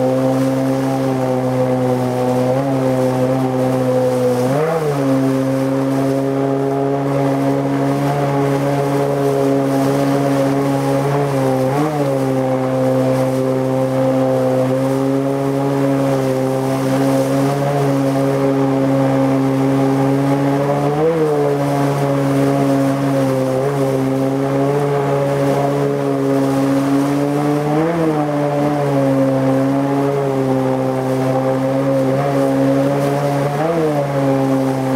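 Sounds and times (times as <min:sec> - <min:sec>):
outboard motor at high revs: 0:00.0 - 0:34.9.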